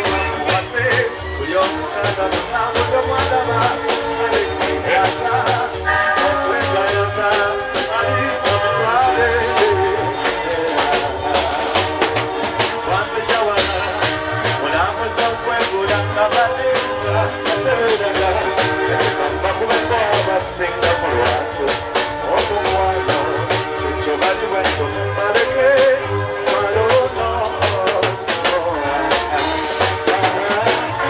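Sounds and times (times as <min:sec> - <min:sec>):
live rock band playing: 0:00.0 - 0:31.0
man singing into a microphone: 0:00.0 - 0:31.0.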